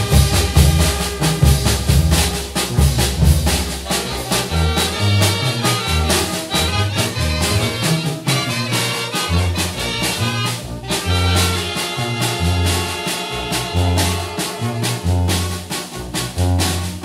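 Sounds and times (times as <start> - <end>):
saxophones clarinets and trumpets: 0.0 - 17.0
tuba bass line: 0.0 - 17.0.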